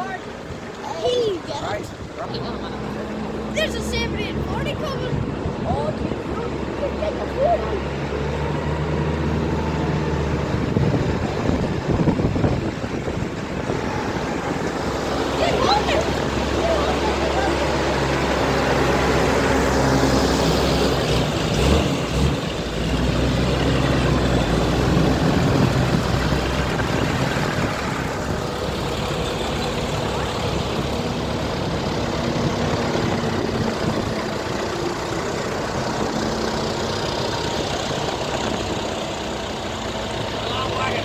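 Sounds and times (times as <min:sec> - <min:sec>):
heavy vehicles driving past: 0:00.0 - 0:41.0.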